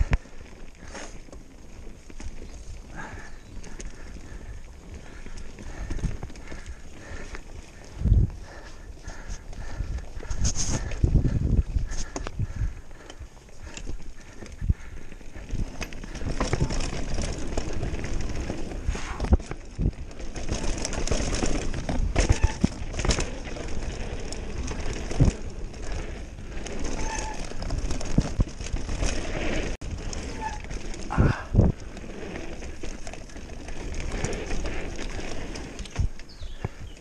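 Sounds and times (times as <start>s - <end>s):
bike rattling and knocking: 0.0s - 37.0s
bike tyres running over dirt: 0.0s - 37.0s
wind buffeting microphone: 2.4s - 37.0s.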